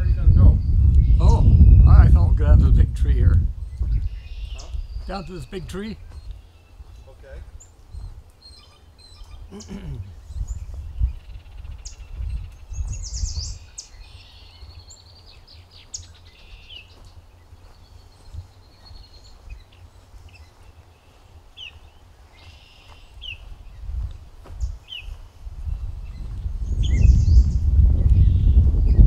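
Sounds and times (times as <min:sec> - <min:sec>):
low rumbling on the microphone: 0:00.0 - 0:08.3, 0:09.4 - 0:22.2, 0:23.2 - 0:29.0
songbirds singing and calling: 0:00.0 - 0:29.0.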